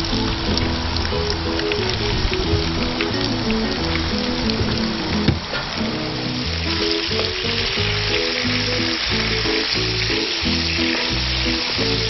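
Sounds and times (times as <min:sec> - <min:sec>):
background music: 0:00.0 - 0:12.0
fish sizzling in hot oil: 0:00.0 - 0:12.0.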